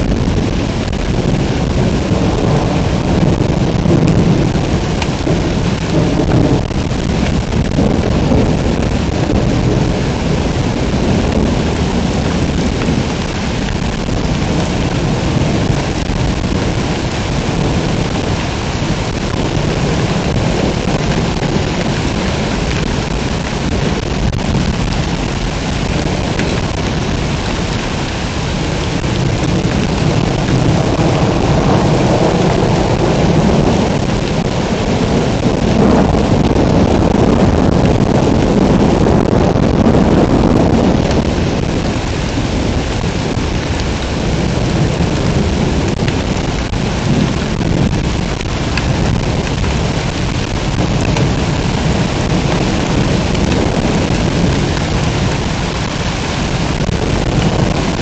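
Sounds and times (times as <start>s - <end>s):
heavy rain pouring: 0.0s - 58.0s
thunder rumbling: 0.0s - 58.0s.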